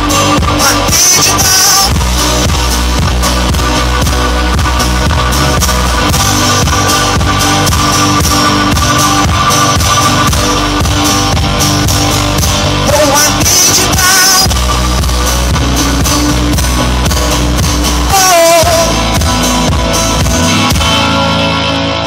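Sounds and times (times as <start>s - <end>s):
live rock band playing: 0.0s - 22.0s
wavering lead melody: 0.0s - 22.0s.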